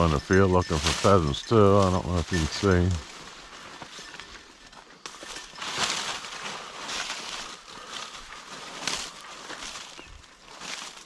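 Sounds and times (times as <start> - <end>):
footsteps swishing through dry grass: 0.0 - 11.0.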